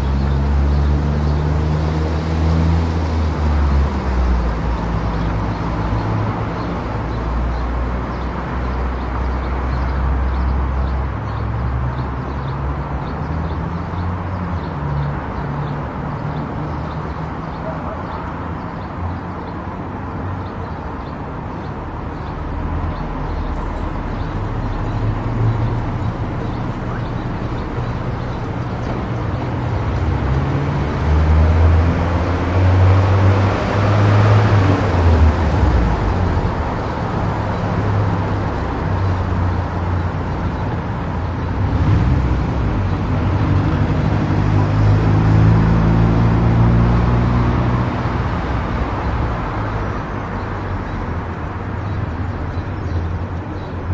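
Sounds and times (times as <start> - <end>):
tyre and road noise: 0.0 - 53.9.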